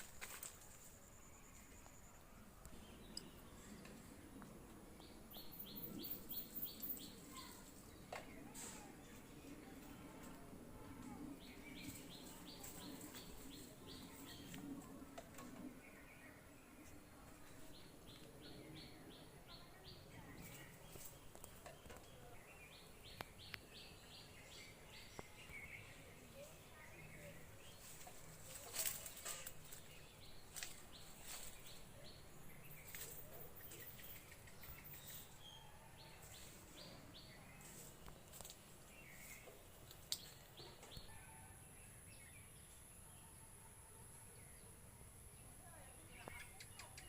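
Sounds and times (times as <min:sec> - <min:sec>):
faint birdsong: 0:00.0 - 0:47.0.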